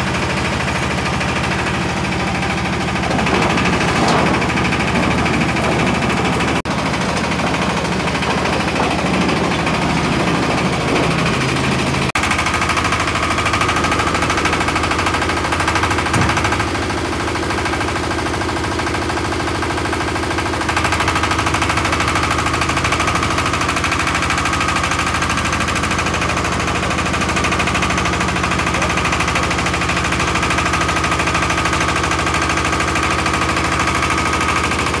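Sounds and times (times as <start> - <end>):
diesel engine knocking: 0.0 - 35.0.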